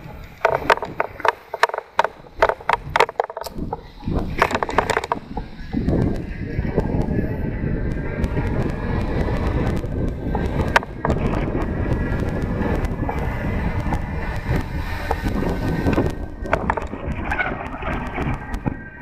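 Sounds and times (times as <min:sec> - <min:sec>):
sharp clicks and rattles: 0:00.0 - 0:19.0
tyre and road rumble: 0:00.0 - 0:19.0
wind buffeting microphone: 0:00.0 - 0:19.0.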